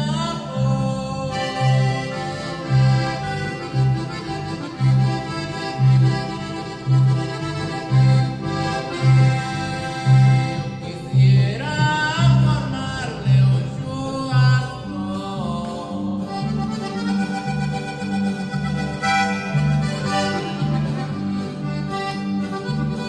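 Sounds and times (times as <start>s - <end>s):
accordion melody: 0.0s - 23.0s
electric bass line: 0.0s - 23.0s.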